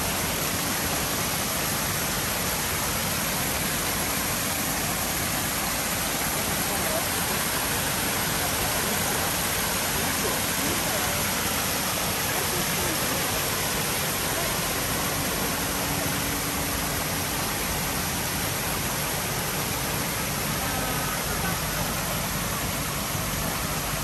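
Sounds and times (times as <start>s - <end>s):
water splashing into pond: 0.0s - 24.0s.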